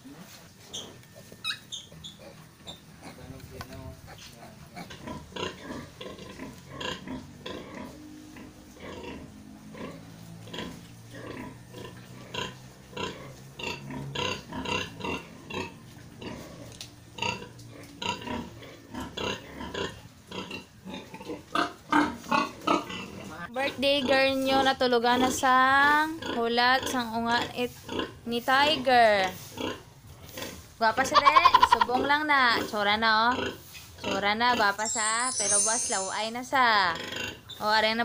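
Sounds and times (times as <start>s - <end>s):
pigs grunting and squealing: 0.0s - 28.8s, 29.5s - 34.9s, 36.8s - 37.6s.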